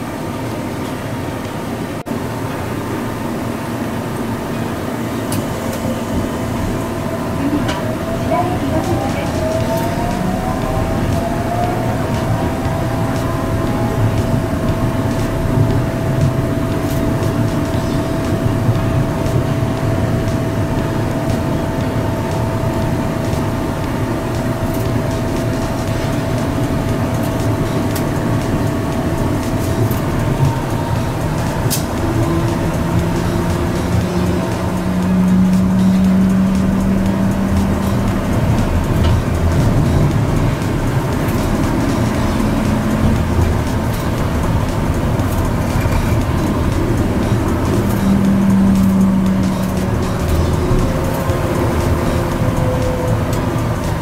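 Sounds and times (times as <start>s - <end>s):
low hum: 0.0s - 54.0s
train low rumble: 0.0s - 54.0s
train whine: 0.0s - 54.0s.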